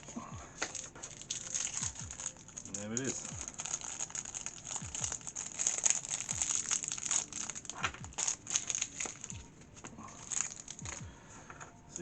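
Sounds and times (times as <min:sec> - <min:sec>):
plastic packaging crinkling: 0:00.7 - 0:09.5, 0:10.1 - 0:11.0.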